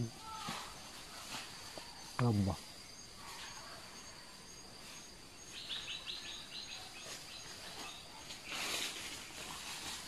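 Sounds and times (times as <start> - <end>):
rustle: 0.0 - 10.0.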